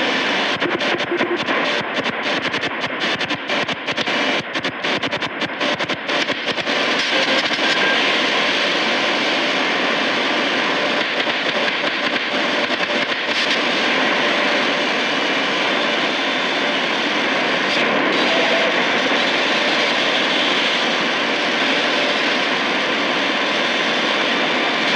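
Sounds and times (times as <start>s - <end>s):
radio static hiss: 0.0s - 24.9s.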